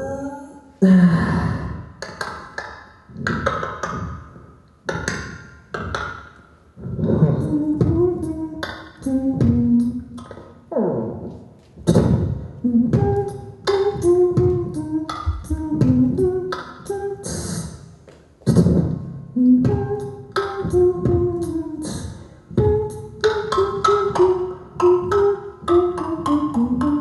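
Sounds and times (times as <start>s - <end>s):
vocal beatbox: 0.0s - 27.0s.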